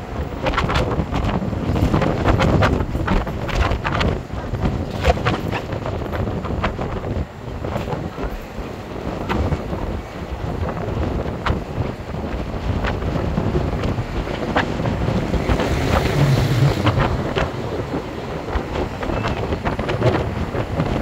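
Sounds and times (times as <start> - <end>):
bus rumble: 0.0 - 21.0
road traffic: 0.0 - 21.0
wind buffeting microphone: 0.0 - 21.0.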